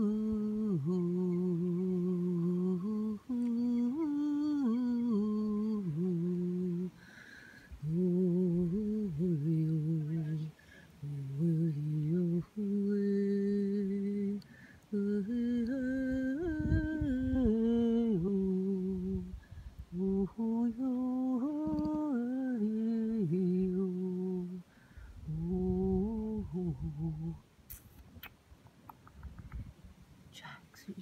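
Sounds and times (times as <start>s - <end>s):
person humming: 0.0s - 27.8s.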